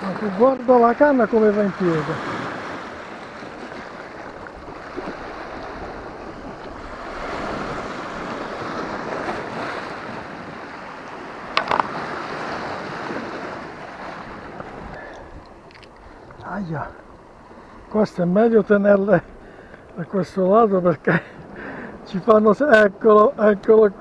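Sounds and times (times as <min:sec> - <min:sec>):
sea waves washing over rocks: 0:00.0 - 0:24.0.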